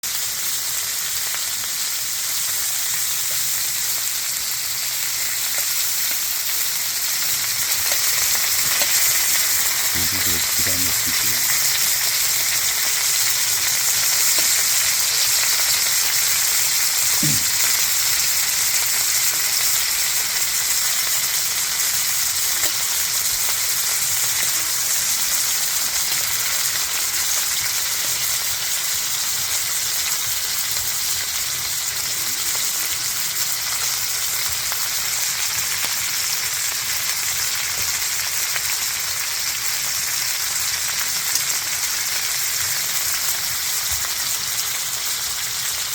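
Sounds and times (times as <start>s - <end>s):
pork belly sizzling: 0.0s - 45.9s.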